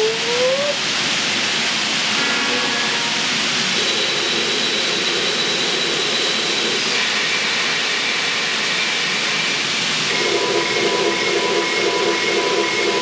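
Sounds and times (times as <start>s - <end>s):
faint high whine: 2.1s - 13.0s.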